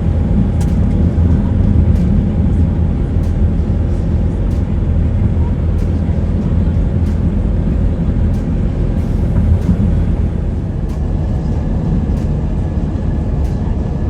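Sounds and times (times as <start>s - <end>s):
moving vehicle rumble: 0.0s - 14.0s.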